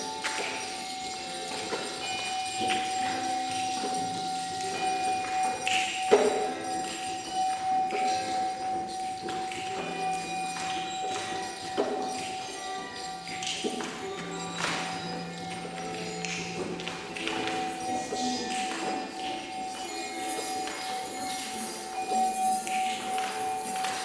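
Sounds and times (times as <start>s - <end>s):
jingling bells: 0.0s - 24.0s
steady ringing tone: 0.0s - 24.0s
struck ringing notes: 0.0s - 24.0s.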